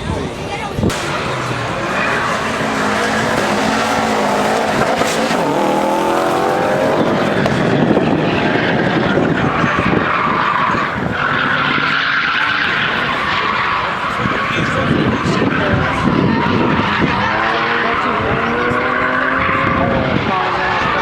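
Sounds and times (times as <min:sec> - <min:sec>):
tyres skidding on tarmac: 0:00.1 - 0:21.0
car engine revving hard: 0:00.9 - 0:21.0
high tyre squeal: 0:01.0 - 0:21.0.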